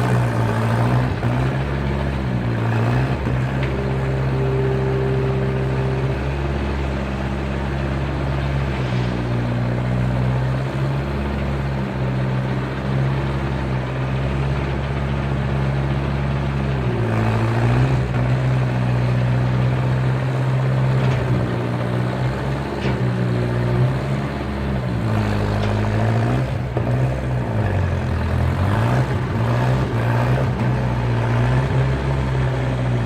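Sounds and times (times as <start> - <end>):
skid steer engine running: 0.0 - 33.0.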